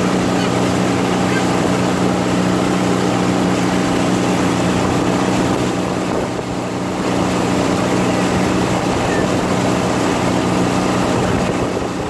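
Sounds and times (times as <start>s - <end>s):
boat motor humming: 0.0s - 12.0s
wind and water rushing: 0.0s - 12.0s.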